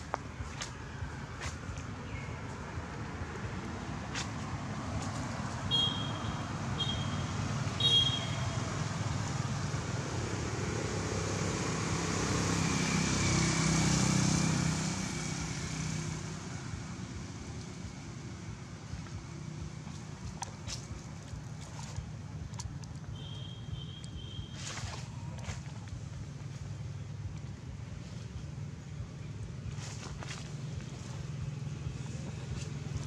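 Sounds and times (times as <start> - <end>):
motor vehicle passing: 0.0 - 33.0.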